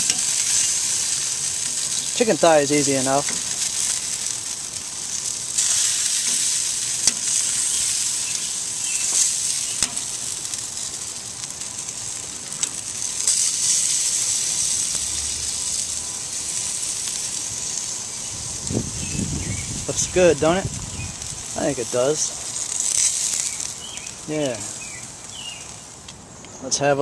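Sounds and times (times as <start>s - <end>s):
meat sizzling on grill: 0.0s - 27.0s.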